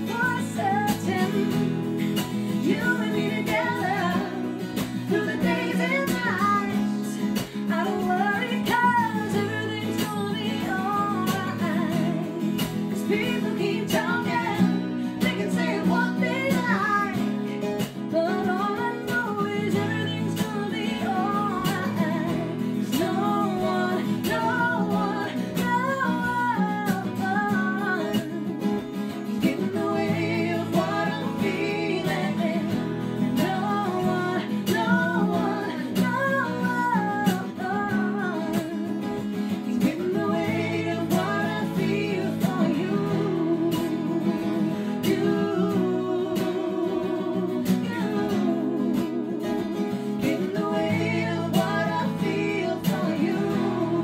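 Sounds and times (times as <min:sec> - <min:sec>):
acoustic guitars strummed: 0:00.0 - 0:54.0
woman and man singing: 0:00.0 - 0:54.0.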